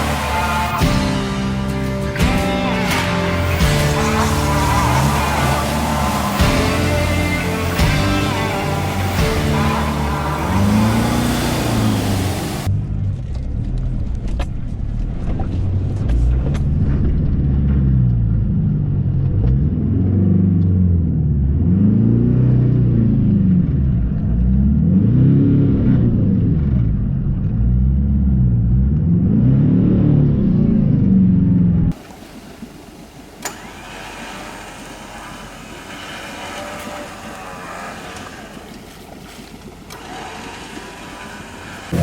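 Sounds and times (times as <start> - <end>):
engine revving: 0.0 - 13.9, 15.7 - 32.0, 33.4 - 42.0.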